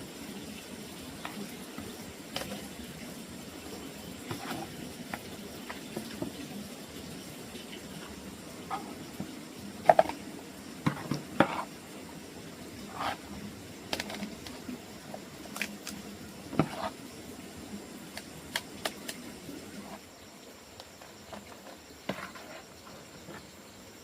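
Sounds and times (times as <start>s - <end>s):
steady low background noise: 0.0s - 24.0s.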